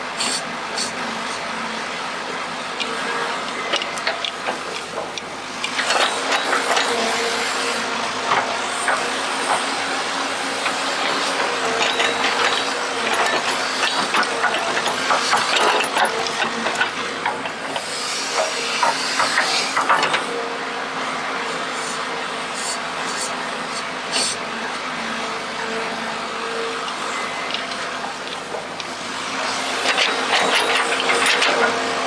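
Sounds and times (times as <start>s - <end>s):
hydraulic pump whine: 0.1s - 32.0s.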